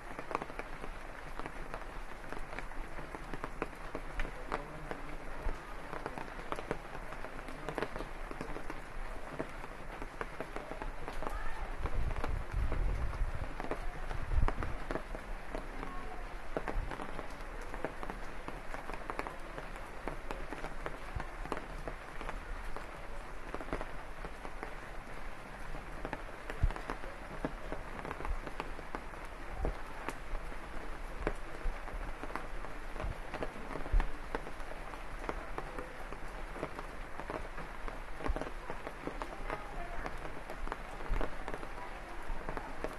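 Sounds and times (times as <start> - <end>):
rain falling on leaves: 0.0 - 42.9.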